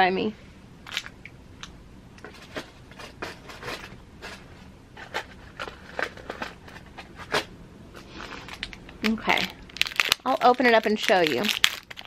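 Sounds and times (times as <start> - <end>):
hands rummaging through objects: 2.2 - 12.0.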